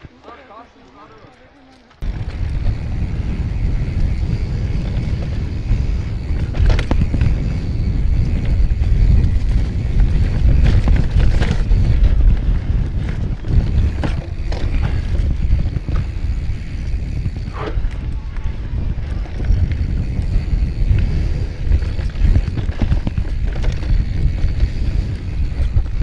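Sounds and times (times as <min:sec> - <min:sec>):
low rumble of bike tyres: 0:00.0 - 0:26.0
bike rattling over bumps: 0:02.0 - 0:26.0
wind buffeting microphone: 0:02.0 - 0:26.0.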